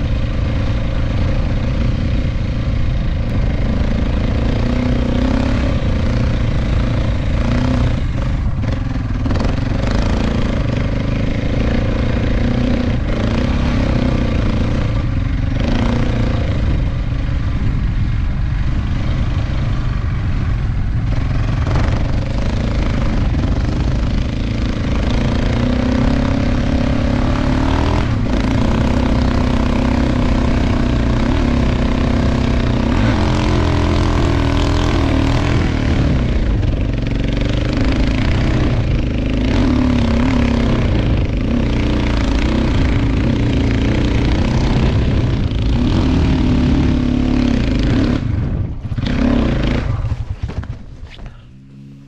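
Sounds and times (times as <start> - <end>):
wind rumble on microphone: 0.0 - 51.8
motorcycle engine running: 0.0 - 52.0.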